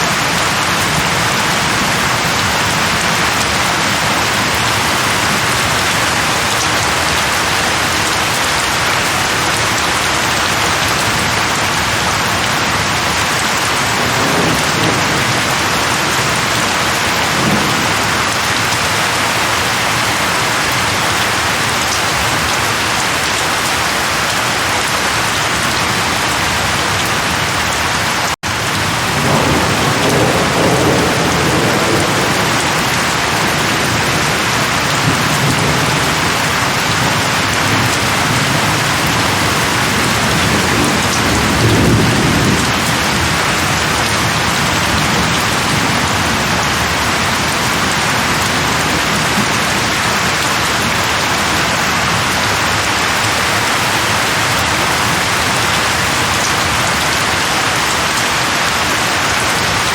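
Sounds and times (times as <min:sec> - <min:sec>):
thunder rumbling: 0:00.0 - 0:23.0, 0:25.6 - 0:57.8
heavy rain falling on leaves: 0:00.0 - 0:59.9.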